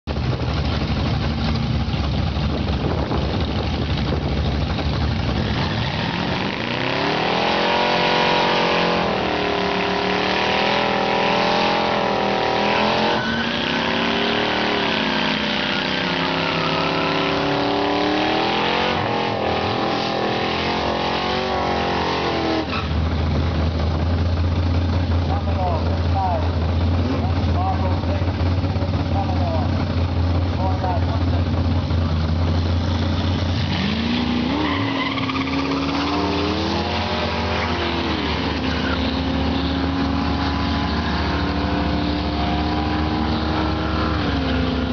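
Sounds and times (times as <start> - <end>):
car engines revving: 0.1 - 44.9.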